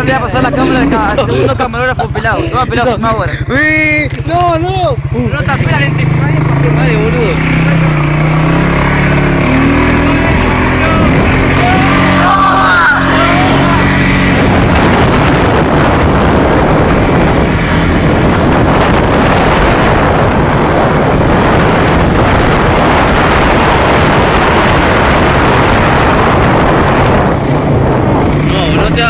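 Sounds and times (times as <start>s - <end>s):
quad bike engine running: 0.0s - 29.0s
wind rushing over microphone: 0.0s - 29.0s.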